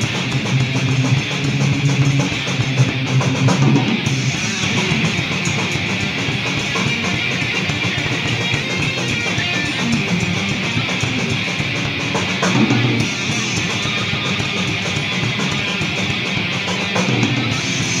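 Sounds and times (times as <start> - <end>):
distorted electric guitar riffing: 0.0 - 18.0.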